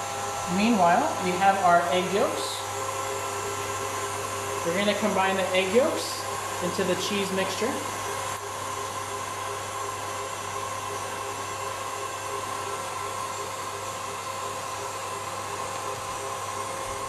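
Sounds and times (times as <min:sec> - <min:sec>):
stand mixer whisking: 0:00.0 - 0:17.0.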